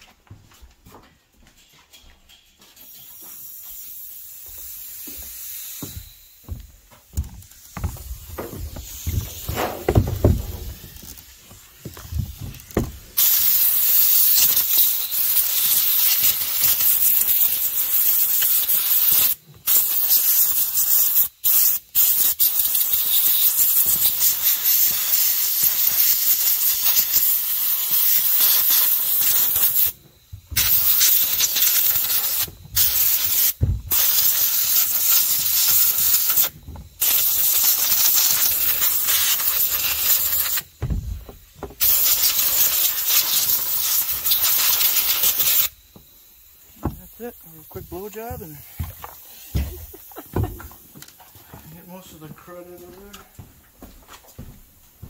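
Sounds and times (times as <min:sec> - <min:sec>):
compressed air blow gun hissing: 0:02.9 - 0:52.3.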